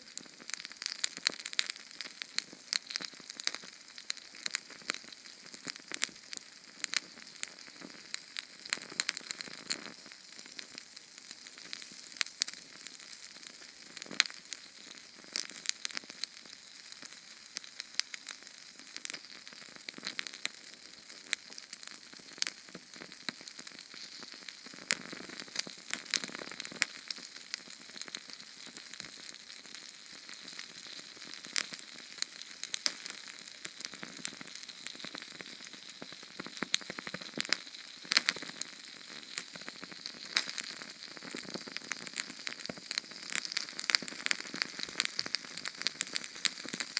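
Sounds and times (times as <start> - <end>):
small flame crackling and hissing: 0.0 - 46.9.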